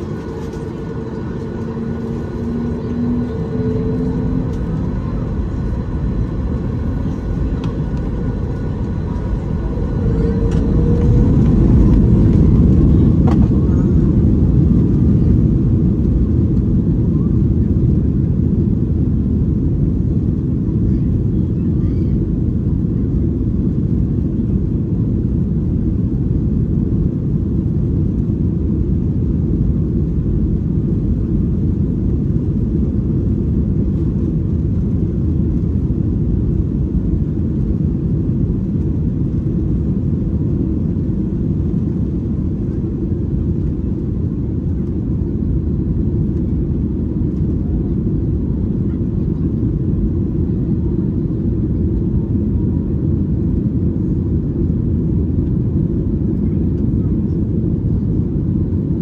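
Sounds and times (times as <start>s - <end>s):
airliner engines rumbling: 0.0s - 59.0s.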